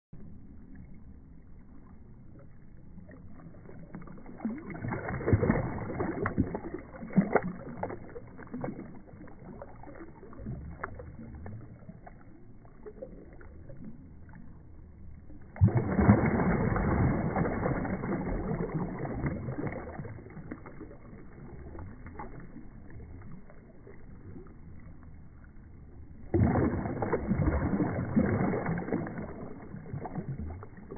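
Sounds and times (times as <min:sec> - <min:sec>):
sea water splashing around body: 0:01.9 - 0:30.9.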